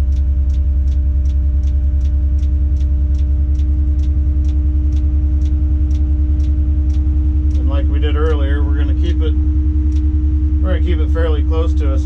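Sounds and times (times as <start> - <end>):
crane engine running: 0.0 - 12.0
regular ticking: 0.0 - 12.0.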